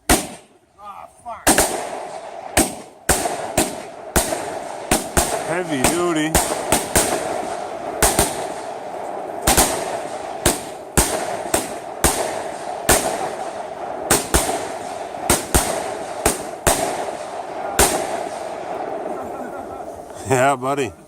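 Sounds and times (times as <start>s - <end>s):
fireworks bangs: 0.0s - 0.6s, 1.4s - 20.4s
crackling hiss: 0.0s - 21.0s.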